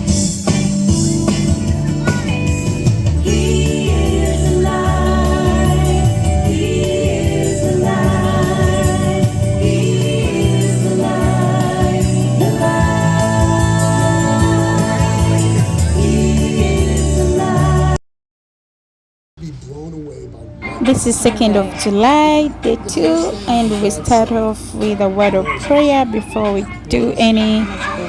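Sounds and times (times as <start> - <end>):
children's pop song with singing: 0.0 - 18.0, 20.6 - 28.0.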